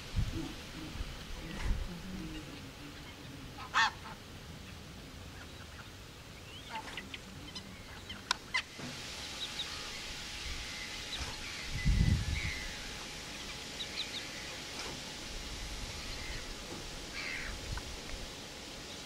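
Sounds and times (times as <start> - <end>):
birds calling: 0.0 - 19.0
faint low background noise: 0.0 - 19.0.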